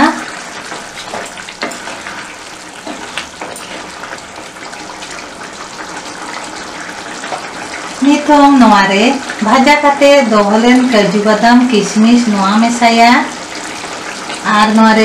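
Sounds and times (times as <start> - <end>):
curry bubbling in a pan: 0.0 - 15.0.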